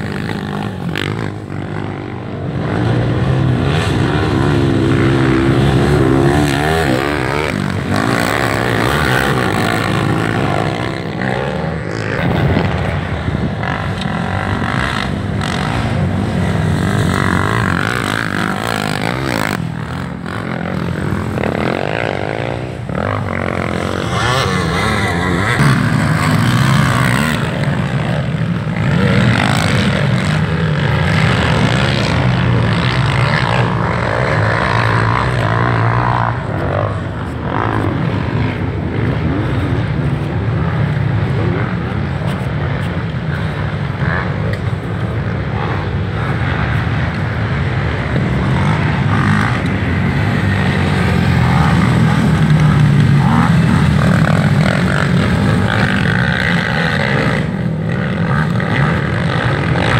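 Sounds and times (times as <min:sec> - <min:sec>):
quad bike engines revving: 0:00.0 - 0:59.9.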